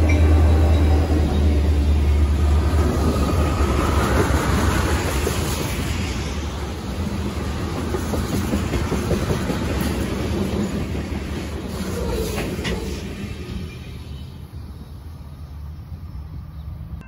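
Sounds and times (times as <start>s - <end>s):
train wheels rumbling on rail: 0.0s - 16.5s.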